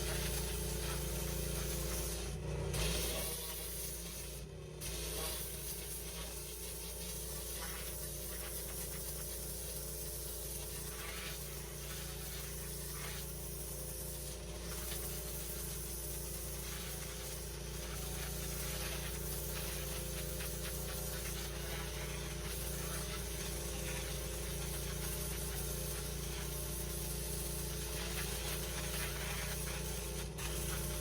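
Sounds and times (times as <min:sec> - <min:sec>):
pressure washer jet hissing on slabs: 0:00.0 - 0:31.0.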